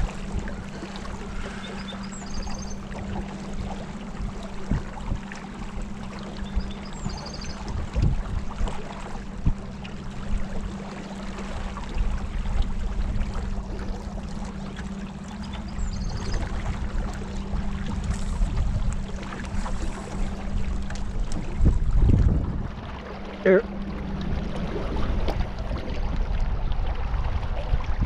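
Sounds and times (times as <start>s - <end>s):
boat motor running: 0.0s - 28.0s
water splashing along hull: 0.0s - 28.0s.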